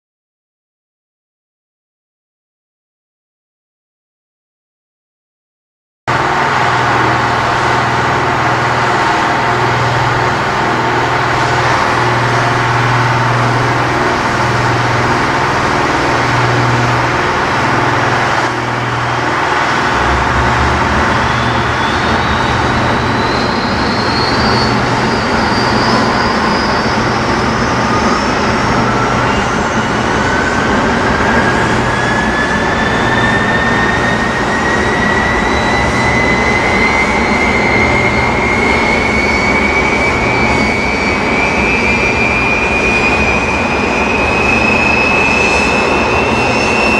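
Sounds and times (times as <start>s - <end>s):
jet engines spooling up whine: 6.1s - 46.9s
pulsing mechanical hum: 6.1s - 46.9s.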